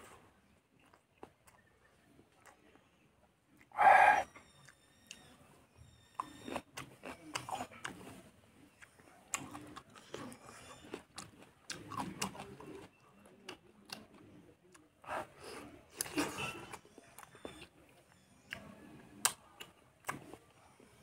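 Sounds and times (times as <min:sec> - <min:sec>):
close chewing and crunching: 0:00.0 - 0:21.0.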